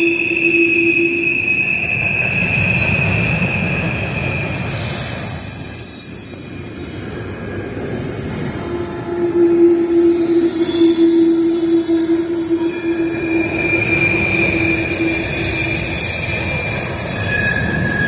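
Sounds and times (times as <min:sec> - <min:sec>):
freight train rumble: 0:00.0 - 0:18.0
train wheels squealing: 0:00.0 - 0:18.0.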